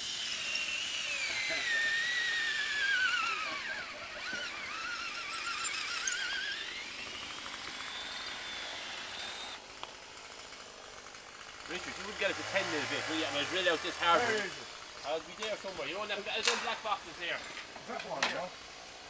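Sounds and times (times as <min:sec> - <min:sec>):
power drill whining: 0:00.0 - 0:17.7.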